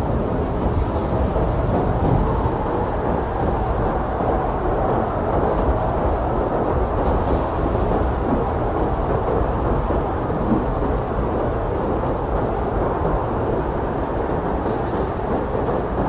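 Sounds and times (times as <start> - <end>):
blizzard wind blowing hard: 0.0 - 16.0.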